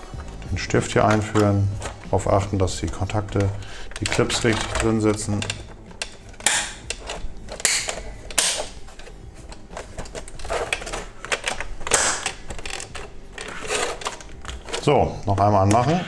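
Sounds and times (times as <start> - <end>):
plastic parts clicking and snapping: 0.0 - 16.0
plastic scraping rustles: 0.0 - 16.0.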